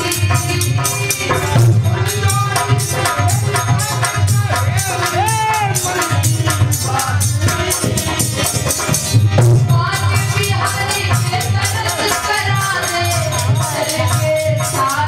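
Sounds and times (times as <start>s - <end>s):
fast steady percussion: 0.0s - 15.0s
woman singing devotional song: 0.0s - 15.0s.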